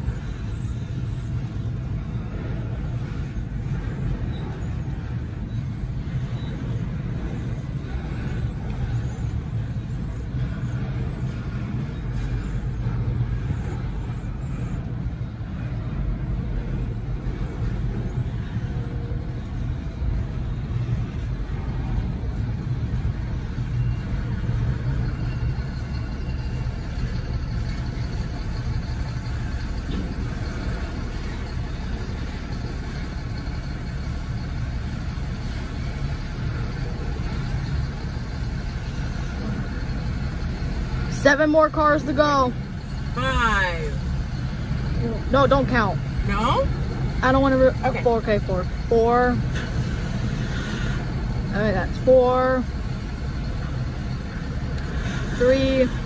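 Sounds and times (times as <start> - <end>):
steel wheels rumbling on rail joints: 0.0 - 56.0.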